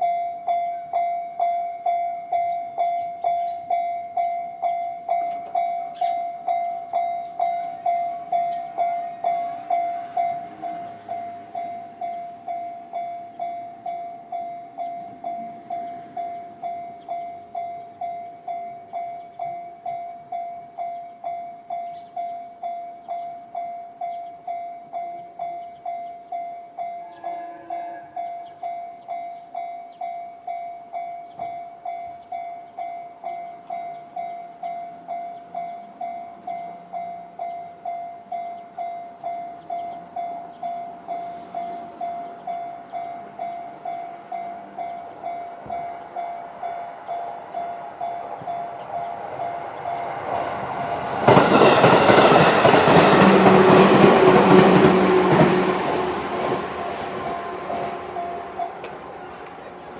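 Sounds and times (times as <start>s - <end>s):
level-crossing bell dinging: 0.0s - 53.8s, 58.1s - 59.9s
train rumble: 0.0s - 59.9s.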